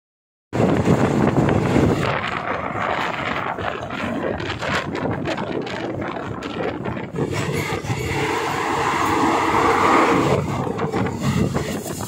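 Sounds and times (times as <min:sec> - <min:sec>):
wind buffeting microphone: 0:00.5 - 0:12.0
train rumbling on track: 0:00.6 - 0:12.0.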